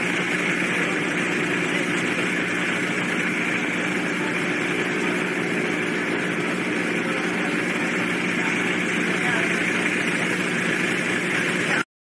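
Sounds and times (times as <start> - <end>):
steady engine drone: 0.0 - 11.9.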